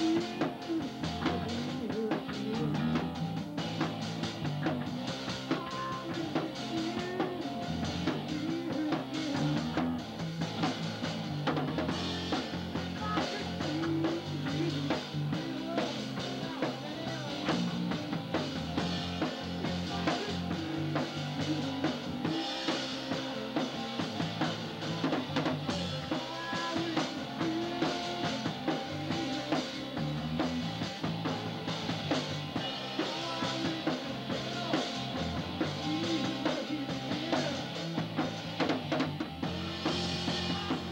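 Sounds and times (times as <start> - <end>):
drum kit beat: 0.0 - 40.9
rock band playing live: 0.0 - 40.9.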